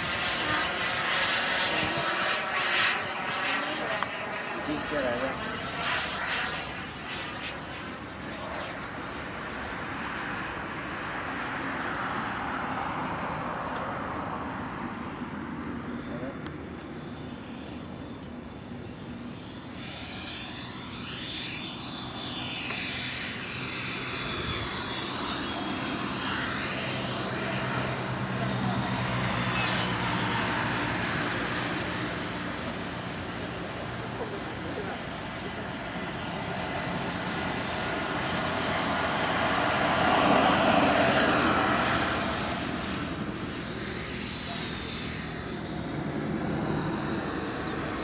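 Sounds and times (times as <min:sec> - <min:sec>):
exhaust rush: 0:00.0 - 0:48.0
model jet turbine whining: 0:00.0 - 0:48.0.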